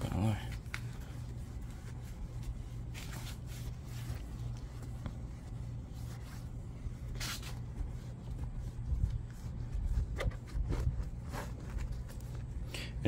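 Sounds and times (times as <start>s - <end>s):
towel rubbing on window glass: 0.0s - 12.6s.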